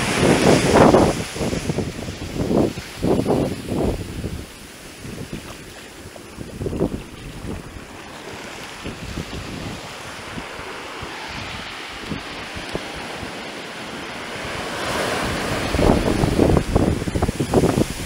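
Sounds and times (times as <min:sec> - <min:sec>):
surf washing up beach: 0:00.0 - 0:18.0
wind buffeting microphone: 0:00.0 - 0:18.0.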